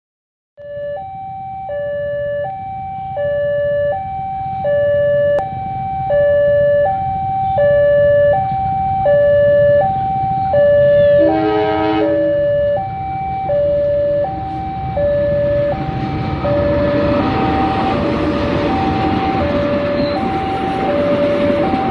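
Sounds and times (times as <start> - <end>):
two-tone hi-lo siren: 0.6 - 21.9.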